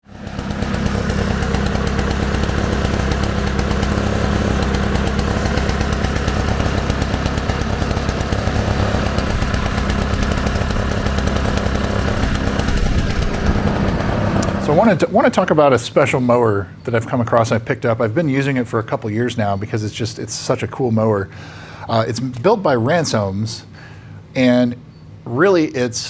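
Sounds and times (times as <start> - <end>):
lawn mower engine running: 0.0 - 18.9, 21.3 - 24.3.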